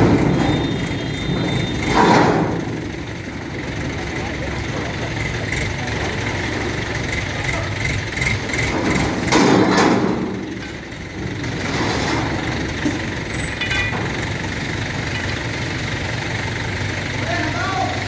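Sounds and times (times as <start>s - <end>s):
heavy vehicle engine idling: 0.0s - 18.0s.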